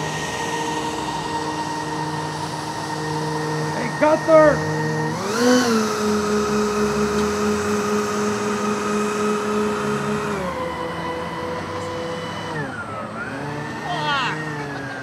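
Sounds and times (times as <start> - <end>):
model jet engines whining: 0.0 - 15.0.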